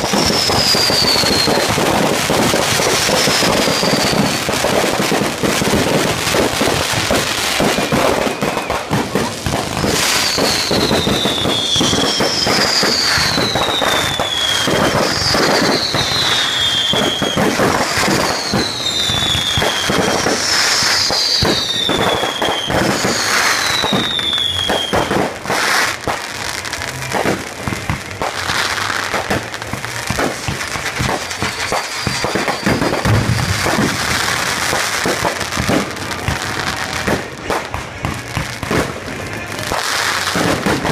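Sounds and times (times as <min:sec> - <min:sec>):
falling firework whistles: 0:00.0 - 0:38.1
fireworks crackling and banging: 0:00.0 - 0:40.9.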